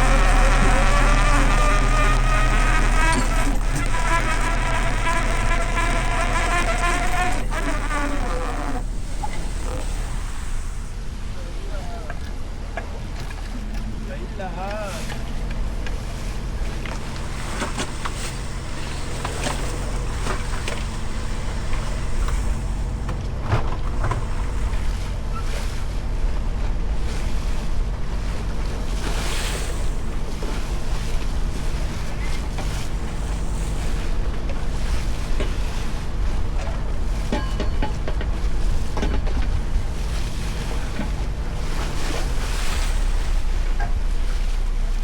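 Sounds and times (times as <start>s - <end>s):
boat engine running: 0.0s - 45.0s
water noise: 0.0s - 45.0s.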